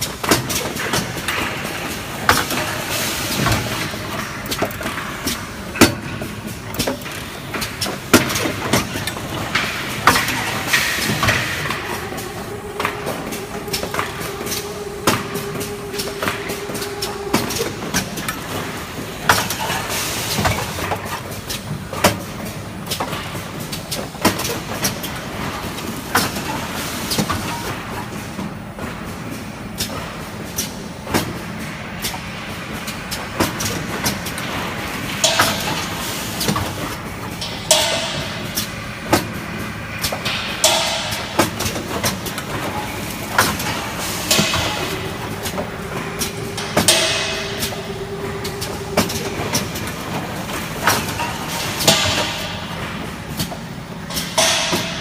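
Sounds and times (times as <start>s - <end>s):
machine clicks and knocks: 0.0s - 29.1s, 32.8s - 55.0s
machine hissing: 0.0s - 29.4s, 30.1s - 55.0s
machine humming: 0.0s - 55.0s.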